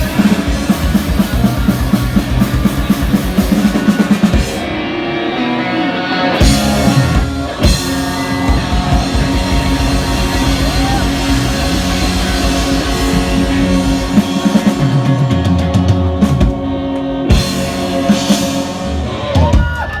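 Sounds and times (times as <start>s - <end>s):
drum kit beat: 0.0s - 4.9s, 6.4s - 20.0s
rock band playing: 0.0s - 20.0s.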